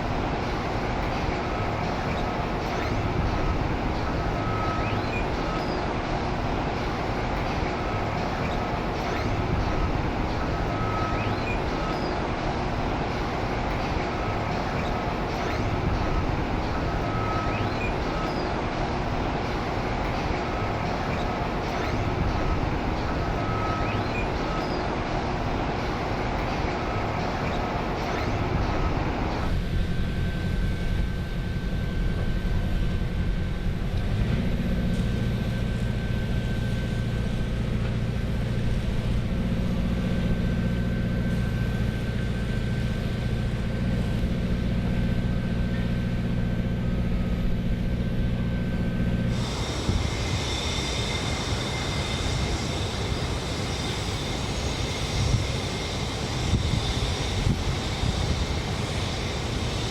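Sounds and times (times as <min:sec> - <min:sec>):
heavy machinery engines droning: 0:00.0 - 0:59.9
noisy machine with high whine: 0:00.0 - 0:59.9.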